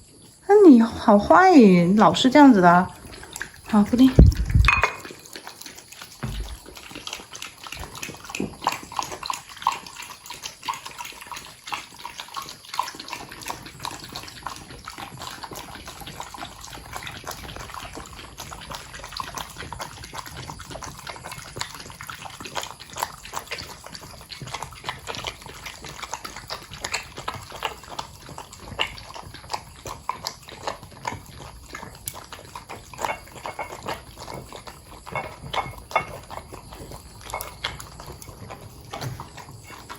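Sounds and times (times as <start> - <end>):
dogs lapping from bowls: 0.0 - 39.9.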